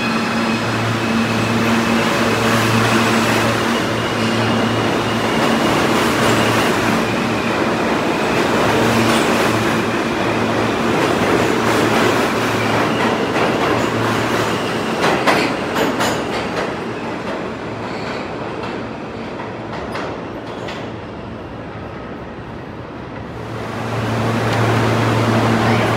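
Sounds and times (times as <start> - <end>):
subway train rumbling past: 0.0 - 25.9.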